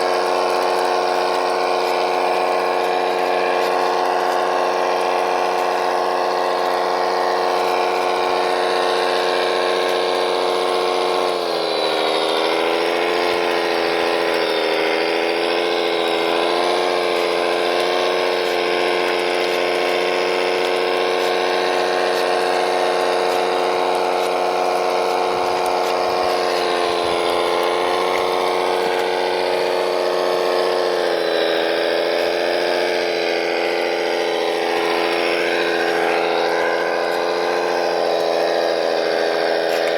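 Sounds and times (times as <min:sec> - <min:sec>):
model motor drone: 0:00.0 - 0:39.9.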